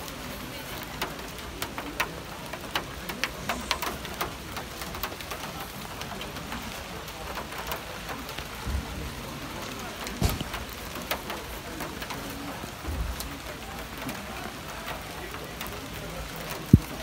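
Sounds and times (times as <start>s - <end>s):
rain hissing: 0.0s - 17.0s
raindrops tapping: 0.0s - 17.0s.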